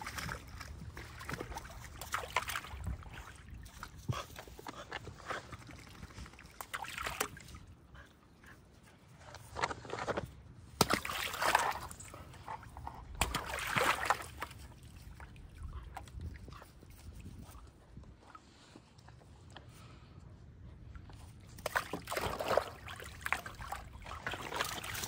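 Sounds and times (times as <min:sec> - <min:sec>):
puppy splashing water: 0:00.0 - 0:08.4, 0:10.7 - 0:19.1, 0:20.8 - 0:25.0.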